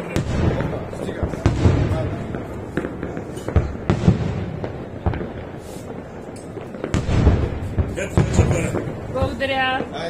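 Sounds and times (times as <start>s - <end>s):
firework shells bursting: 0.0s - 10.0s.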